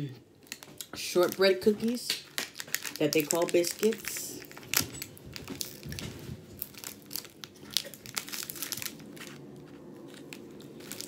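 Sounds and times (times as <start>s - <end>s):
plastic wrapper tearing and crinkling: 0.4s - 11.0s.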